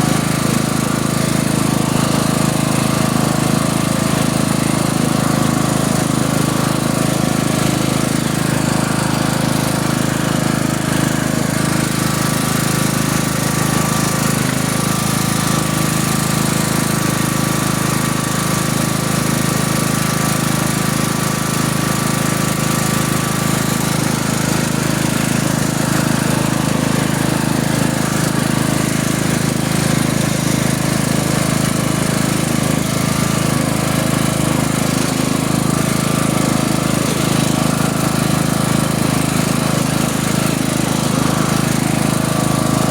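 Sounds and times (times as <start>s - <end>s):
engine rumble: 0.0s - 42.9s.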